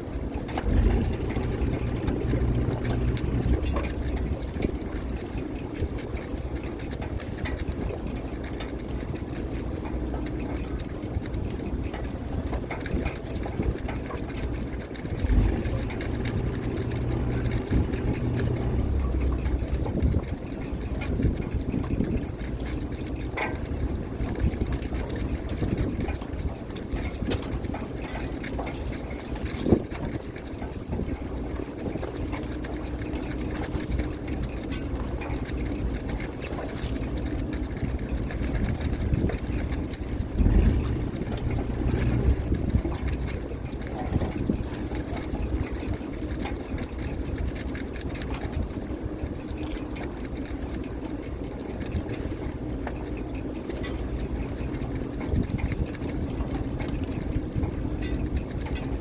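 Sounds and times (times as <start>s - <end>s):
boat engine running: 0.0s - 59.0s
water around hull: 0.0s - 59.0s.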